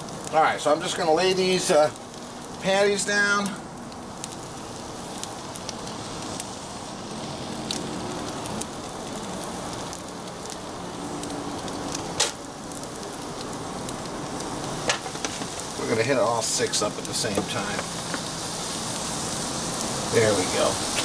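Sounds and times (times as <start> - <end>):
fat sizzling on griddle: 0.0 - 21.0.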